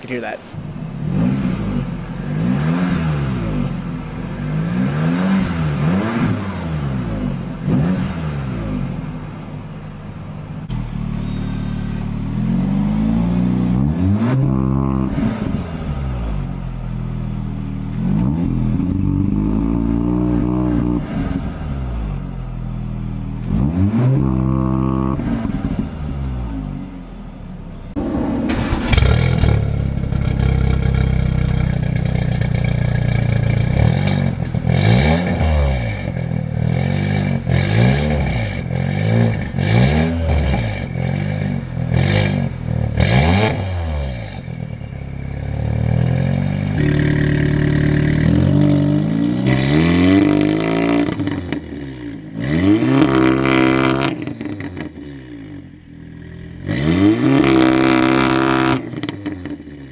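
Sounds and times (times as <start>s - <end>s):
car exhaust idling and revving: 0.0s - 59.9s.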